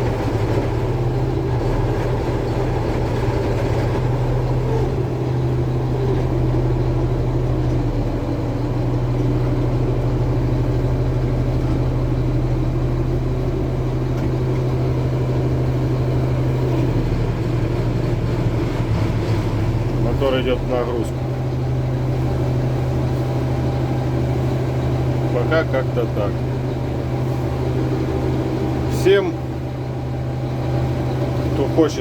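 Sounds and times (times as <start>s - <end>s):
tractor diesel engine humming: 0.0s - 32.0s.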